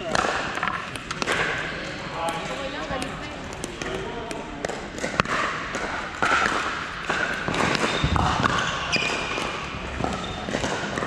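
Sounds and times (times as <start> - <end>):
paddles striking a plastic ball: 0.0 - 1.6, 2.2 - 11.0.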